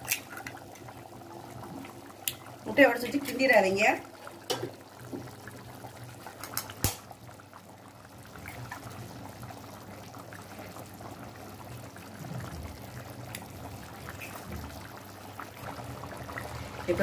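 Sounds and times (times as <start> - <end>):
curry bubbling and popping: 0.0 - 17.0.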